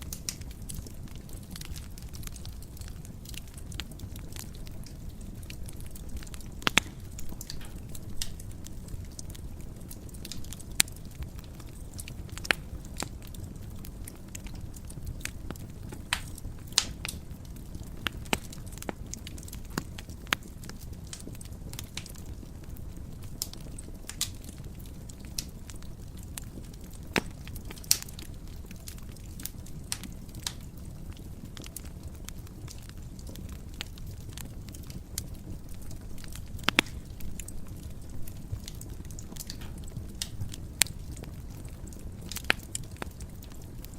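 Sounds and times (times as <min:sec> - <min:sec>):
fire crackling and popping: 0:00.0 - 0:43.9
fire rumbling: 0:00.0 - 0:43.9.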